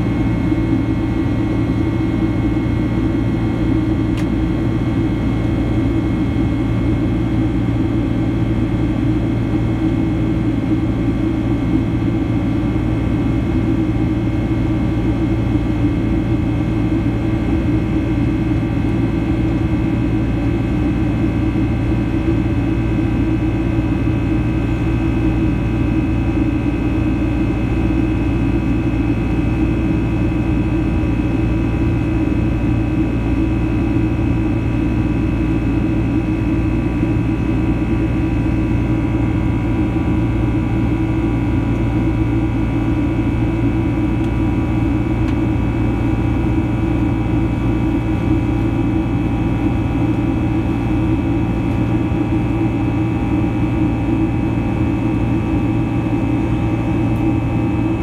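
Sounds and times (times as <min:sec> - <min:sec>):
high engine whine: 0:00.0 - 0:58.0
jet engine rumble in cabin: 0:00.0 - 0:58.0.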